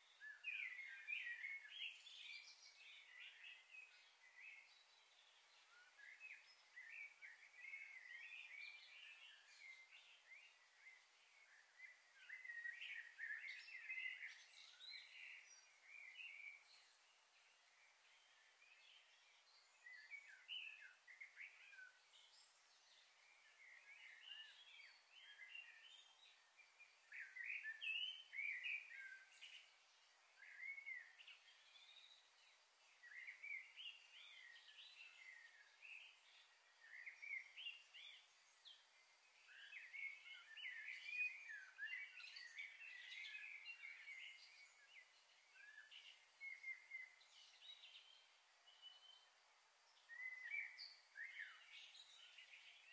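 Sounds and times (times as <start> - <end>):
small birds twittering: 0.0 - 52.9.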